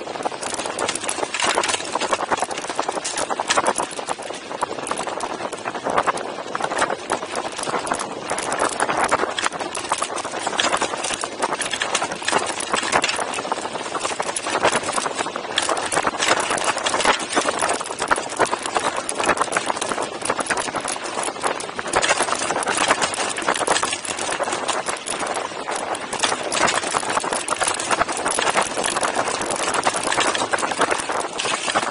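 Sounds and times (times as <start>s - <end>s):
bike frame rattling: 0.0s - 31.9s
bike tyres crunching on gravel: 0.0s - 31.9s.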